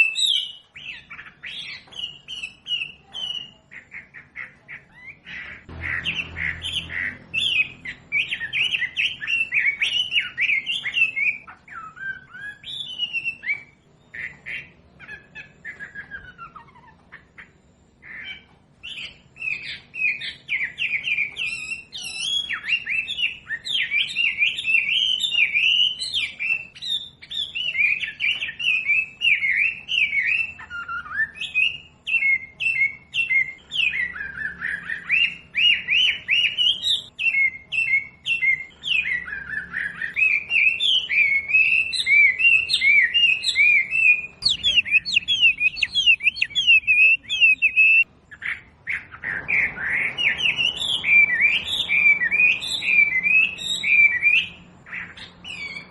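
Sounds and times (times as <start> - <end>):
bird chirping and trilling: 0.0 - 55.9.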